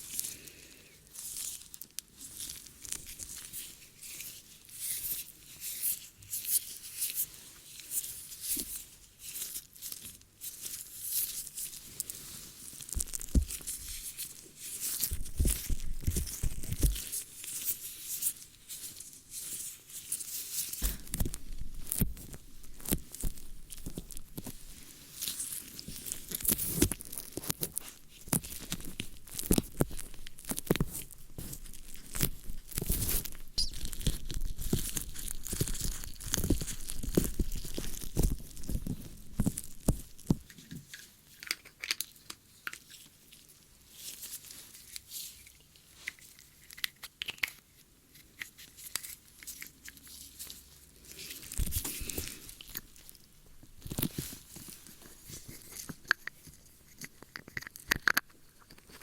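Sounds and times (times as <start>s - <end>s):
crackly scratching and rubbing: 0.0s - 59.0s.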